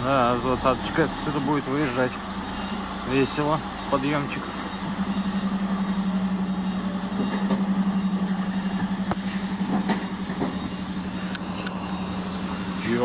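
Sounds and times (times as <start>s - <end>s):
truck diesel engine drone: 0.0s - 13.0s.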